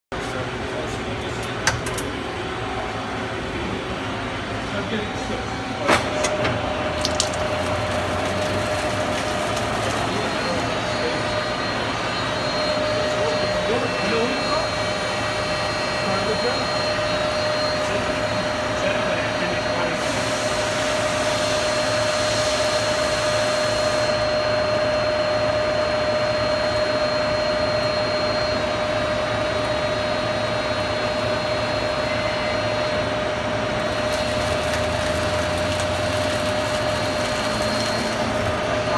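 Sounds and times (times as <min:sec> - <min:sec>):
machine drone with whine: 0:00.1 - 0:38.9.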